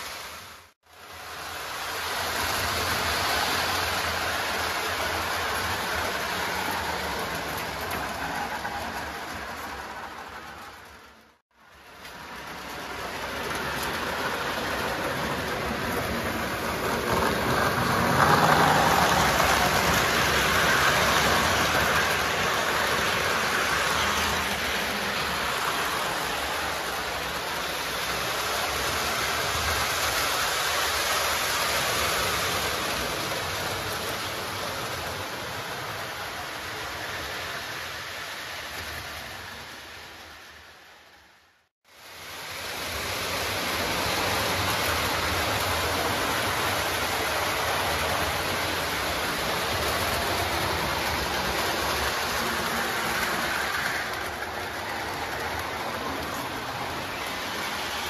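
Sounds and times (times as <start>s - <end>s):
model train rolling: 0.0s - 58.0s.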